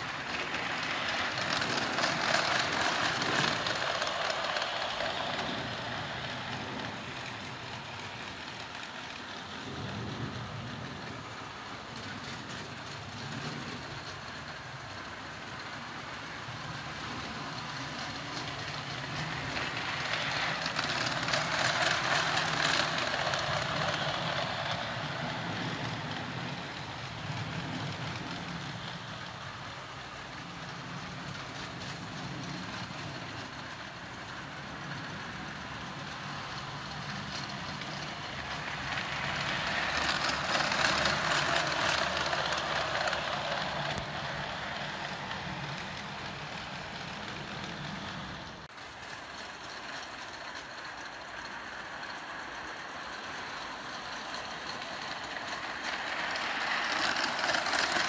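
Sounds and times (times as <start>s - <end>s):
model train humming: 0.0s - 58.0s.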